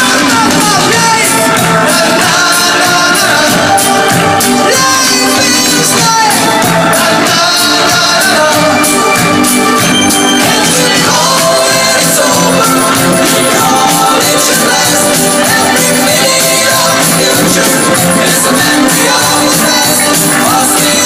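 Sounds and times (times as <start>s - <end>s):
music with drum beat: 0.0s - 21.0s
person singing: 0.0s - 21.0s.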